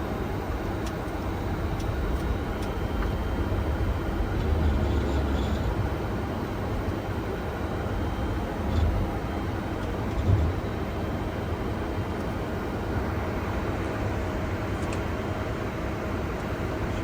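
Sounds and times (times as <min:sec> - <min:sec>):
aircraft engines rumbling: 0:00.2 - 0:17.0.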